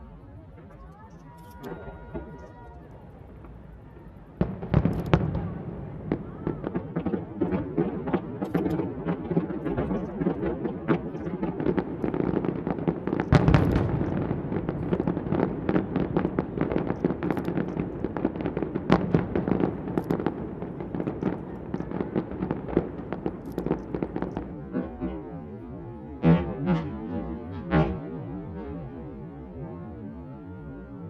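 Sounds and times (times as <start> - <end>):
fireworks bangs and crackles: 0.1 - 31.0.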